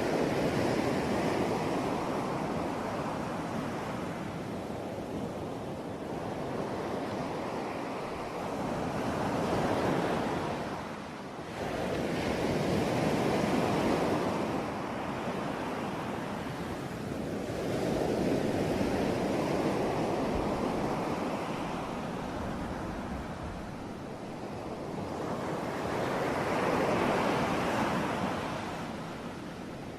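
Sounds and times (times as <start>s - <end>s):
sea waves washing ashore: 0.0s - 29.9s.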